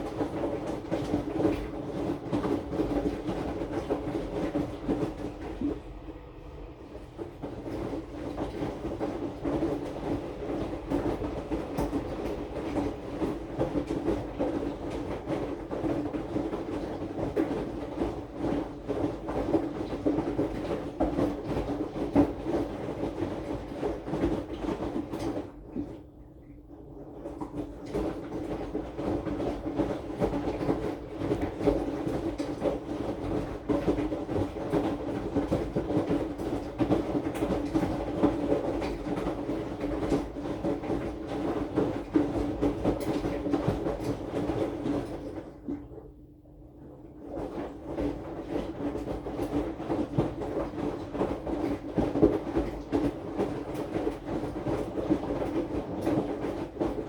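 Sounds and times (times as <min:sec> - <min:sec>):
washing machine drum knocking: 0:00.0 - 0:26.0, 0:26.9 - 0:45.9, 0:47.2 - 0:57.0
wet laundry tumbling and thudding: 0:00.0 - 0:26.2, 0:26.8 - 0:46.1, 0:46.8 - 0:57.0
washing machine motor hum: 0:00.0 - 0:57.0.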